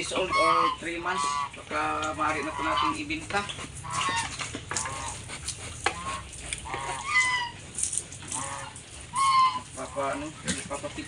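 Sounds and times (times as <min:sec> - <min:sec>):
piglets squealing and grunting: 0:00.0 - 0:10.4.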